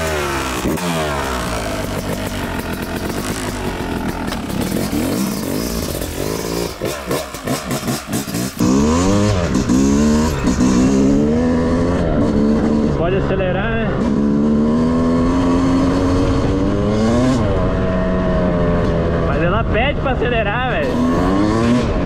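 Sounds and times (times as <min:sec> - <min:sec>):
two-stroke motorbike engine revving: 0:00.0 - 0:19.5, 0:20.8 - 0:22.0.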